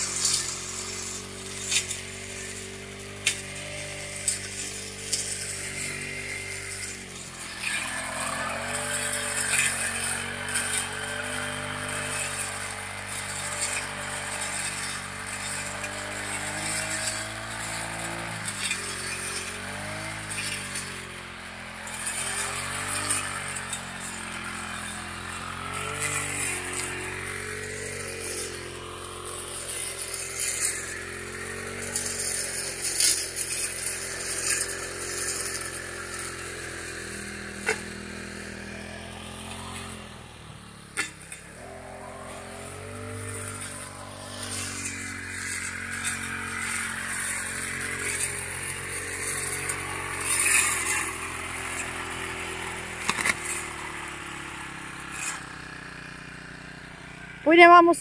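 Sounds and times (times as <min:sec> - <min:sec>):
brush cutter engine revving: 0:00.0 - 0:58.0
line whirring through grass: 0:00.0 - 0:58.0.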